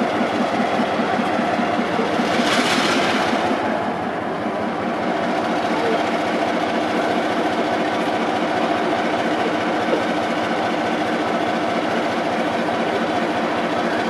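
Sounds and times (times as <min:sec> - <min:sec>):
diesel locomotive engine pulsing: 0:00.0 - 0:14.0.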